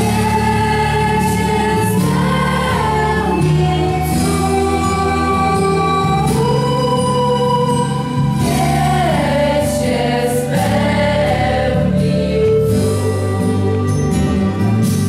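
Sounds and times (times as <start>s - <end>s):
choir singing a carol: 0.0s - 14.7s.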